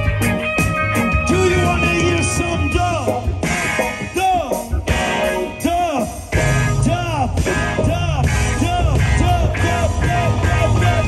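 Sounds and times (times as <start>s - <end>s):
electric guitars: 0.0s - 11.0s
heavy bass: 0.0s - 11.0s
keyboard: 0.0s - 11.0s
live reggae band playing: 0.0s - 11.0s.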